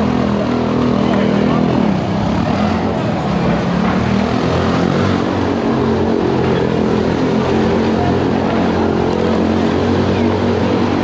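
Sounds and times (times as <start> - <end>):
motorcycle engine running hard: 0.0 - 11.0.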